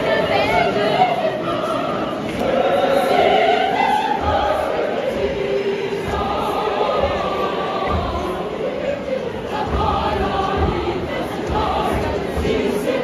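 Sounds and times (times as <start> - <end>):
church choir singing: 0.0 - 13.0.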